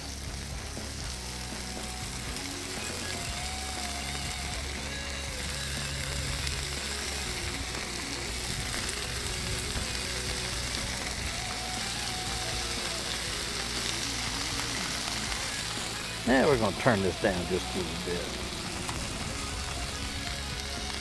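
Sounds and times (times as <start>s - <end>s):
food sizzling on griddle: 0.0s - 21.0s.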